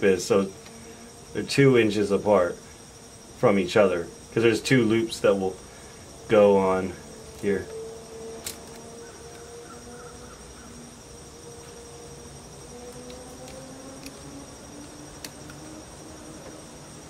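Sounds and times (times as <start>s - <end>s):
crickets trilling: 0.0s - 17.0s
faint low hum: 0.0s - 17.0s.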